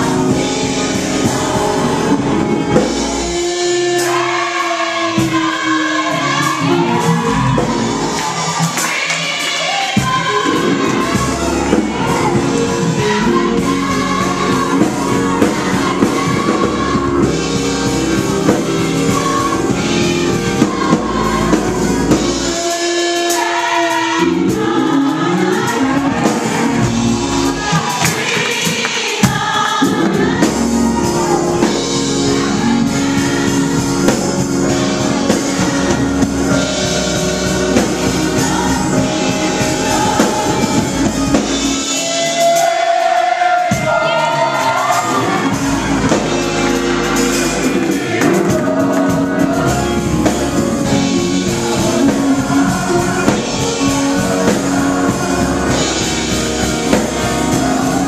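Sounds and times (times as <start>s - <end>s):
bass: 0.0s - 3.9s, 6.5s - 8.7s, 10.0s - 23.0s, 24.2s - 27.9s, 29.8s - 42.0s, 44.8s - 58.0s
drum kit: 0.0s - 58.0s
electric keyboard: 0.0s - 58.0s
organ: 0.0s - 58.0s
voices singing together: 0.0s - 58.0s.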